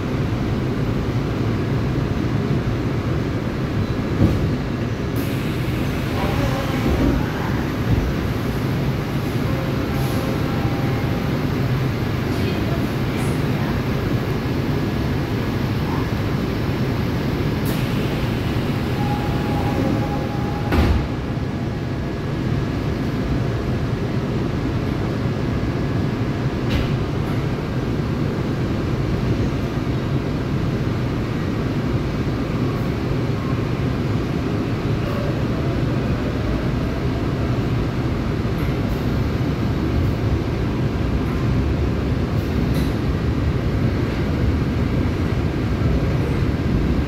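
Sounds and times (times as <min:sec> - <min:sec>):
electric train rumble and hum: 0:00.0 - 0:47.0.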